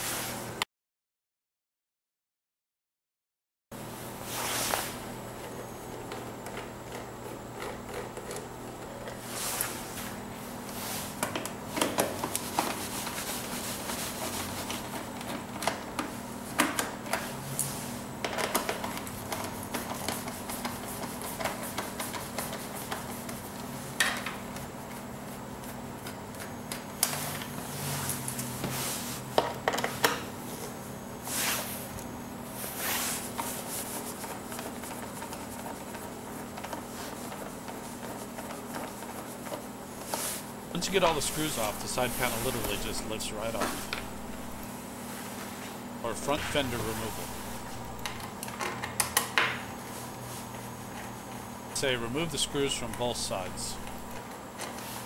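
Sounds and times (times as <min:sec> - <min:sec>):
steady low hum: 0:03.8 - 0:48.5, 0:49.7 - 0:54.8.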